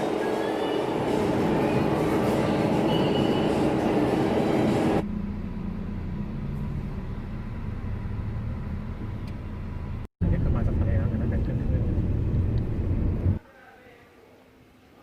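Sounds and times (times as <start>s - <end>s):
vehicle road and engine noise: 0.0s - 13.4s
low engine hum: 1.0s - 13.4s.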